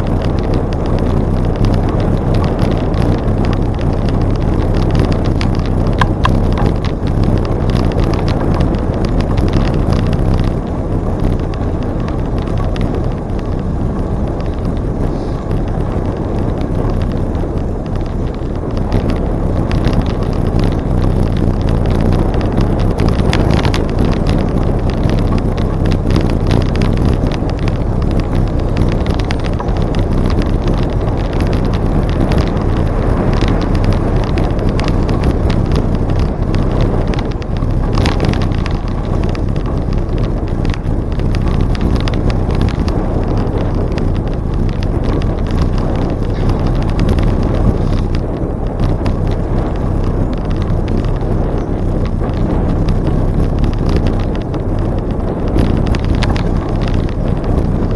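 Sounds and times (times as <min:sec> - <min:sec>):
bicycle tyre rumble: 0:00.0 - 0:57.9
small clicks and rattles: 0:00.0 - 0:57.9
wind rush on microphone: 0:00.0 - 0:57.9.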